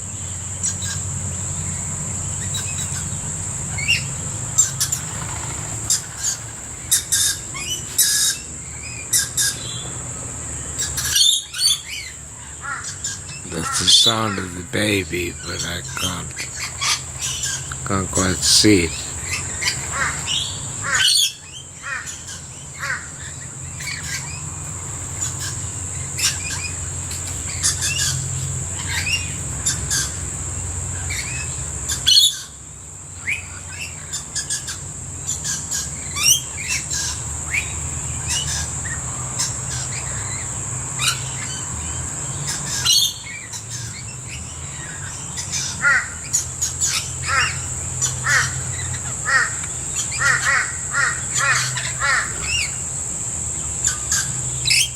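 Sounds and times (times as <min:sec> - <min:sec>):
birds calling: 0:00.0 - 0:54.9
high-pitched insect whine: 0:00.0 - 0:54.9.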